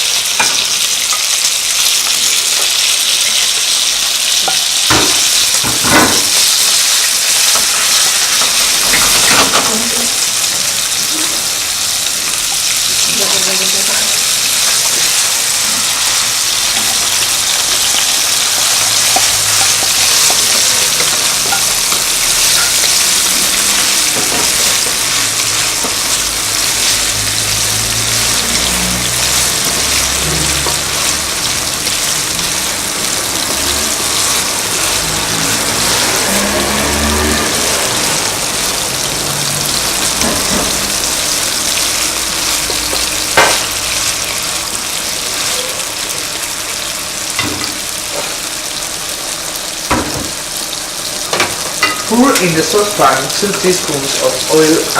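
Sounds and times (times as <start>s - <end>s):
food sizzling in oil: 0.0s - 54.9s.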